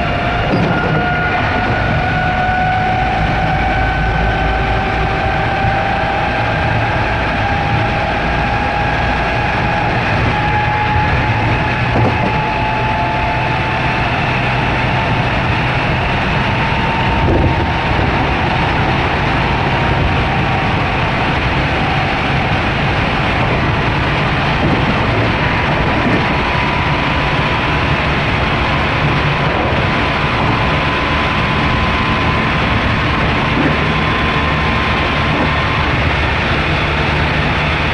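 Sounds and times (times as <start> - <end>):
train motor whine: 0.0 - 37.9
wheels rumbling on rail: 0.0 - 37.9.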